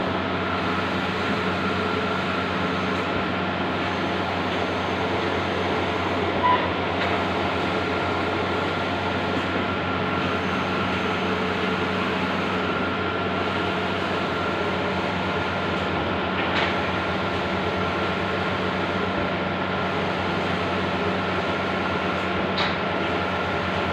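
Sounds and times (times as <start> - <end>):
printer mechanical drone: 0.0 - 23.9.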